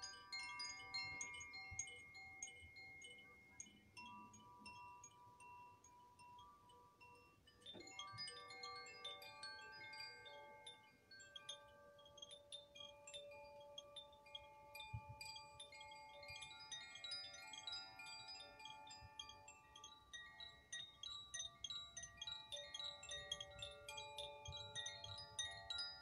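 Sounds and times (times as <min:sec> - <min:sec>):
metal chimes ringing: 0:00.0 - 0:26.0.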